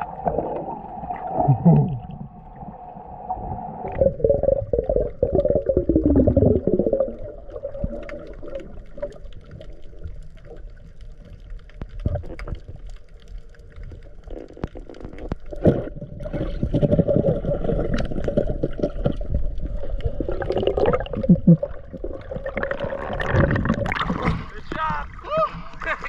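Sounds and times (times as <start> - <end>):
water splashing: 0.0 - 26.0.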